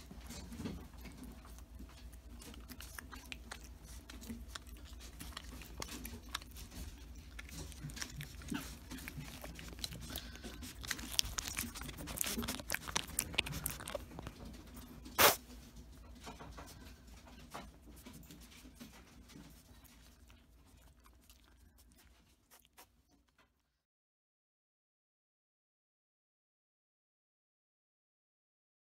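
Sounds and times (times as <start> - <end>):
animal chewing leafy greens: 0.0 - 23.6.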